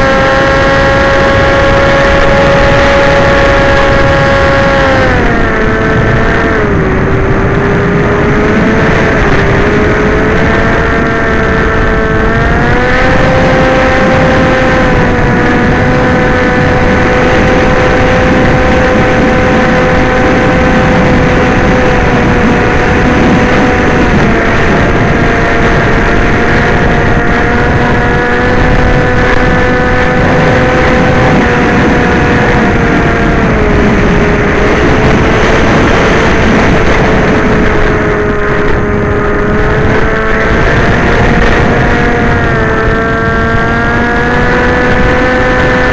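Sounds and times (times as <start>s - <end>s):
model aircraft motor whine: 0.0s - 45.9s
wind rushing: 0.0s - 45.9s.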